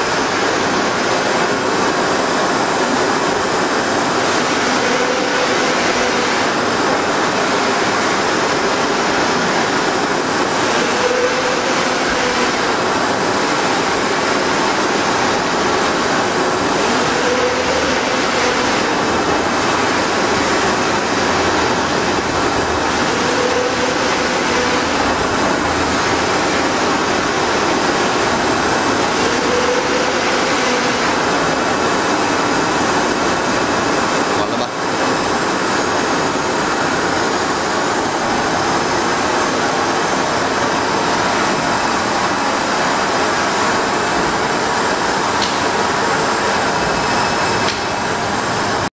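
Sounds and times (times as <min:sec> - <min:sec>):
printer machine noise: 0:00.0 - 0:48.9.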